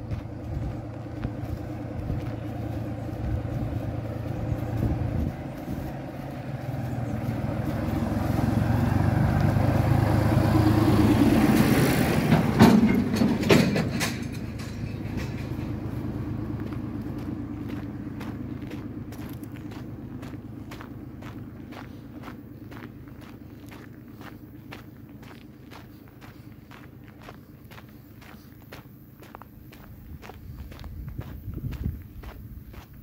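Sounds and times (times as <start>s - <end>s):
vehicle passing by: 0.0s - 33.0s.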